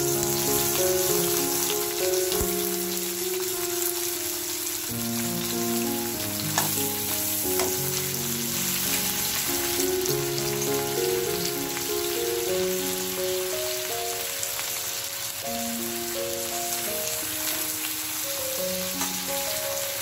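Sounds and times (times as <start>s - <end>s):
food sizzling in hot oil: 0.0s - 20.0s
slow background music: 0.0s - 20.0s.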